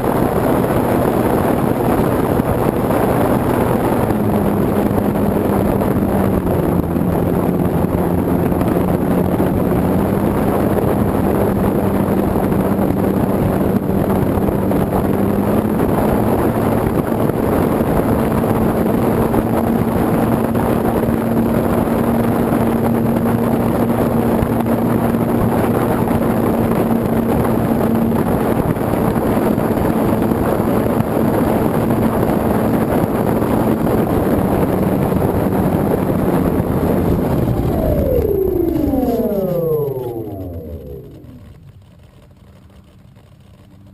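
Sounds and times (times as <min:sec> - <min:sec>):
model airplane motor and propeller: 0:00.0 - 0:43.9
wind rush over microphone: 0:00.0 - 0:43.9.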